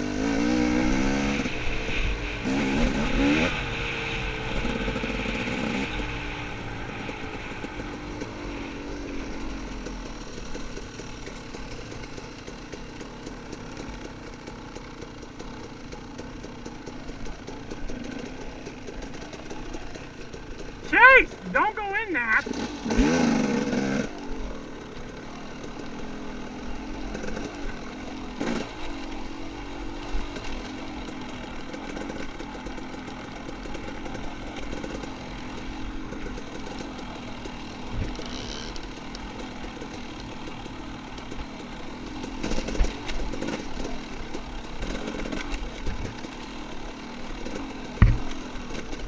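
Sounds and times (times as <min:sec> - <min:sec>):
dirt bike engine running: 0:00.0 - 0:49.0.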